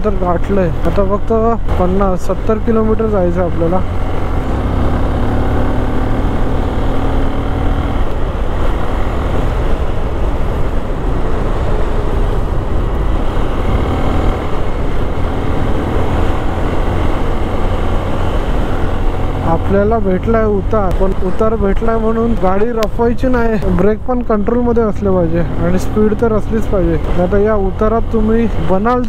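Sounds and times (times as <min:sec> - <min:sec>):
motorcycle engine running: 0:00.0 - 0:29.0
road noise: 0:00.0 - 0:29.0
wind noise: 0:00.0 - 0:29.0.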